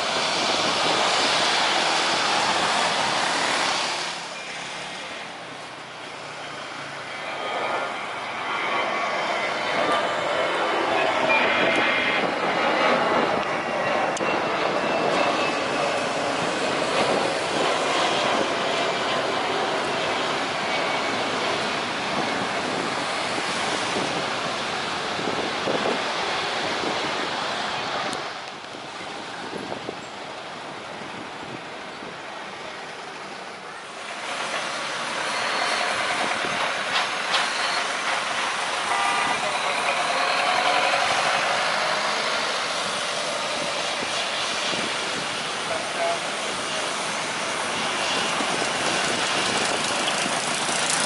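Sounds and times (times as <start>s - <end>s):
turbofan whine: 0.0s - 28.9s, 34.0s - 51.0s
jet engines on runway: 0.0s - 51.0s.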